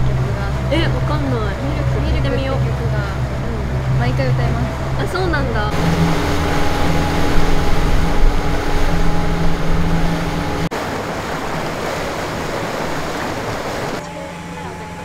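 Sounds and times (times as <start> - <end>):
wind on microphone: 0.0 - 14.0
boat engine droning: 0.0 - 15.0
churning wake water: 0.0 - 15.0.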